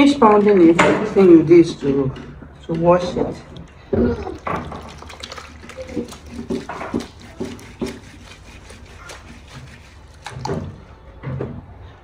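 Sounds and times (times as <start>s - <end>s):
water sloshing and squelching: 0.0s - 11.4s.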